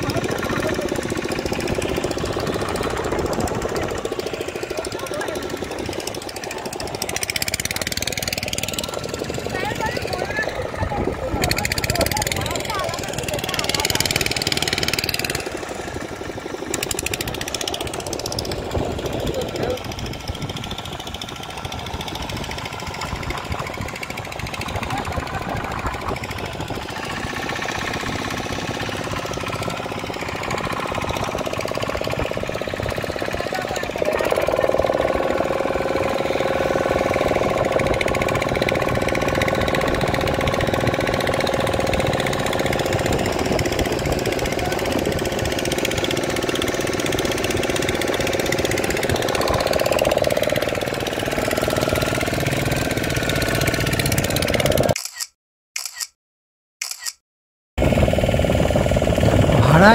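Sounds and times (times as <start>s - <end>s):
boat engine chugging: 0.0s - 54.9s.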